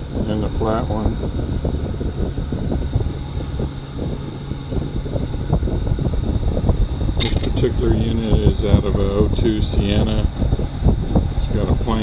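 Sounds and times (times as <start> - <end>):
fan wind noise on microphone: 0.0 - 12.0.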